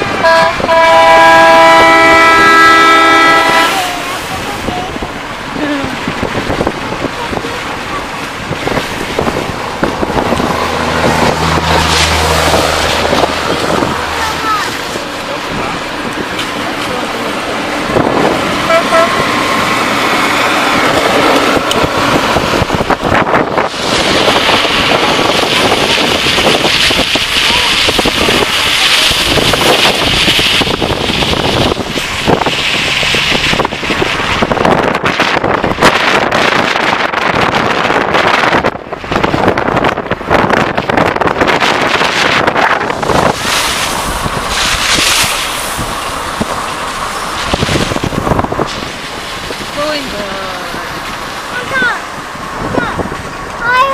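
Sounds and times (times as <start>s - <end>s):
train clattering rumble: 0.0s - 53.9s
train engine drone: 0.0s - 53.9s
wind buffeting microphone: 0.0s - 53.9s.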